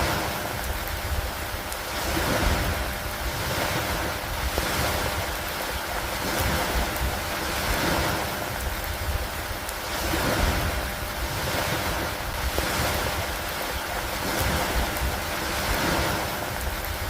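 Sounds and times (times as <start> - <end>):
low wind rumble: 0.0 - 17.0
rain falling: 0.0 - 17.0.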